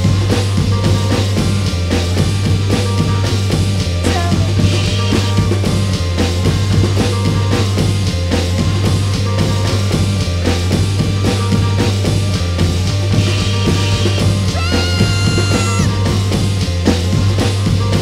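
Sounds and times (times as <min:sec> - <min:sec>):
drum kit playing: 0:00.0 - 0:18.0.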